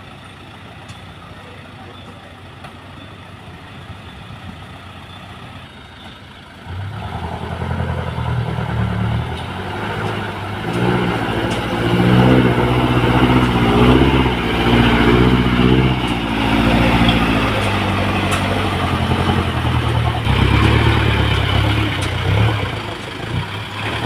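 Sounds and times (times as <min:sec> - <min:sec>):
dump truck engine revving: 0:04.4 - 0:24.0.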